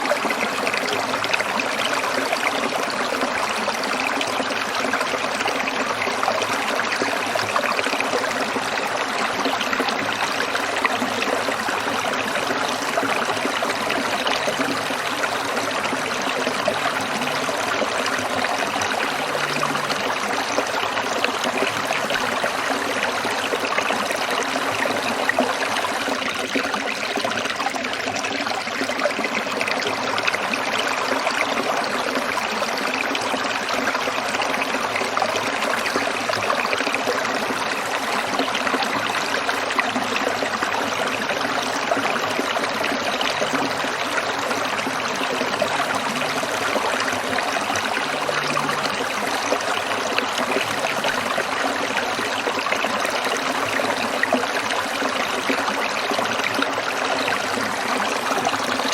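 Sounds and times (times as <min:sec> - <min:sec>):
stream trickling over stones: 0:00.0 - 0:58.9.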